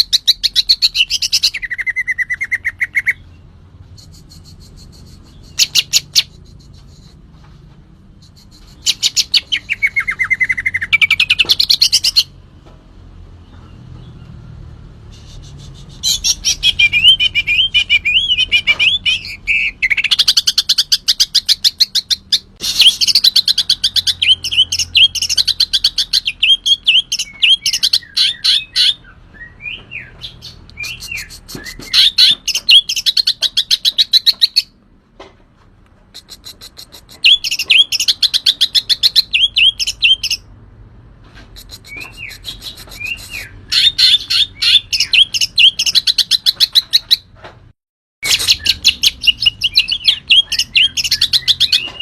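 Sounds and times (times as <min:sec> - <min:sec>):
songbird singing: 0:00.0 - 0:07.2, 0:08.1 - 0:12.4, 0:13.2 - 0:34.8, 0:36.1 - 0:40.5, 0:41.6 - 0:47.3, 0:48.2 - 0:52.0.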